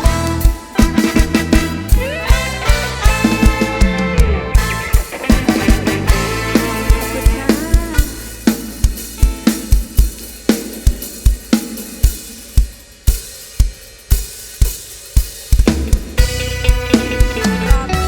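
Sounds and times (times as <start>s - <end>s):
drum kit beat: 0.0s - 18.0s
live band playing: 0.0s - 18.0s.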